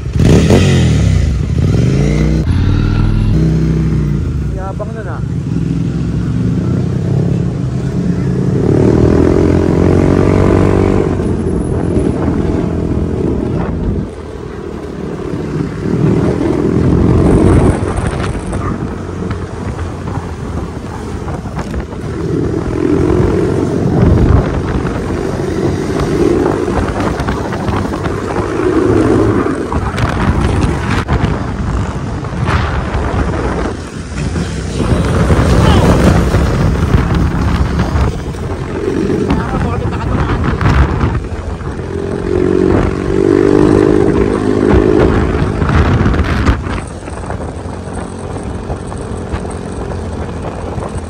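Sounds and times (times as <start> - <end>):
motorcycle engine revving: 0.0 - 51.0
wind buffeting microphone: 6.8 - 51.0.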